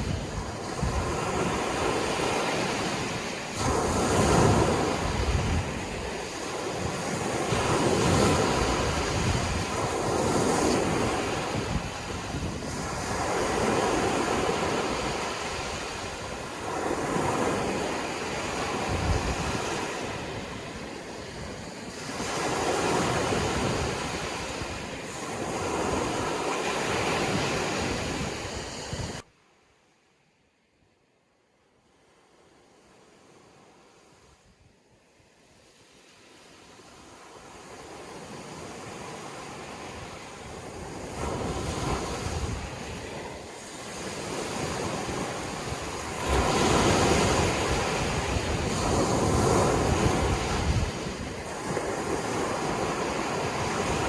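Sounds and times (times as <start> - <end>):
sea waves surging: 0.0 - 29.3, 35.0 - 54.0.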